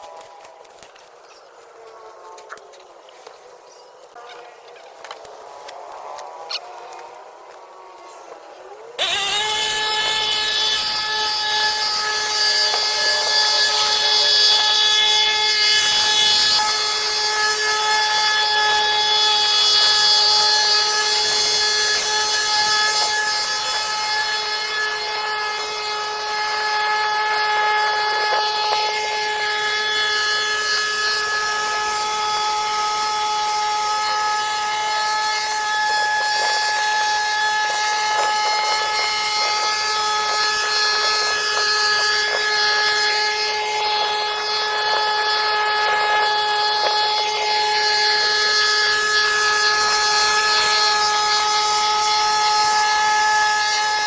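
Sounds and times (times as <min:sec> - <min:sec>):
power tool running high-pitched: 0:08.0 - 0:54.0.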